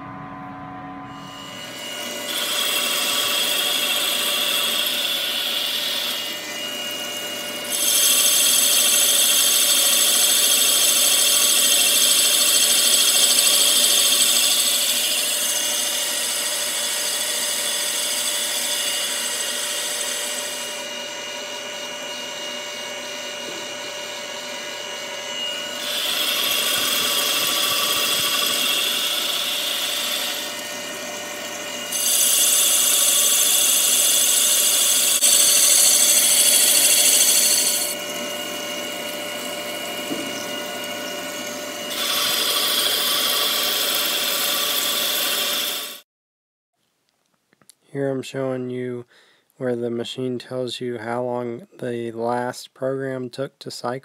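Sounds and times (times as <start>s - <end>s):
lathe spindle whining: 0.0s - 46.0s
cutting tool on metal: 1.2s - 46.0s.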